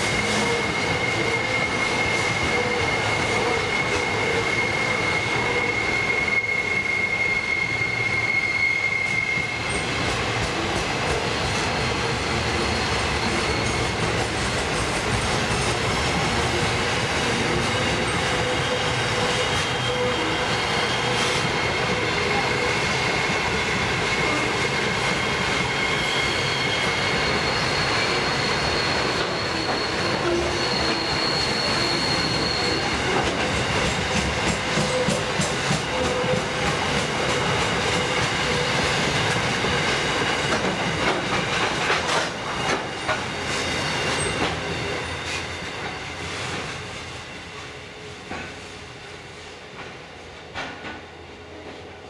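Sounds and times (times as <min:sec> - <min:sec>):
high wheel squeal: 0:00.0 - 0:46.5
train wheels rumbling and clacking: 0:00.0 - 0:52.0.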